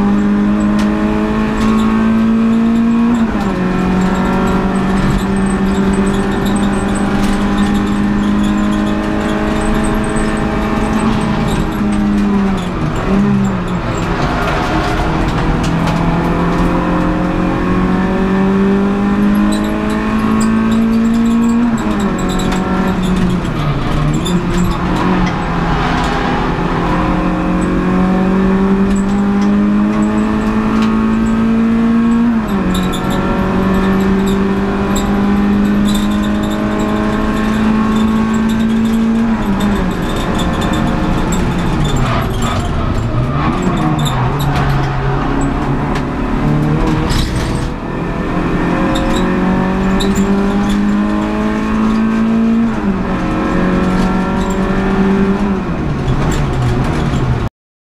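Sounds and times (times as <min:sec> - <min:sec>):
car engine accelerating: 0:00.0 - 0:57.5.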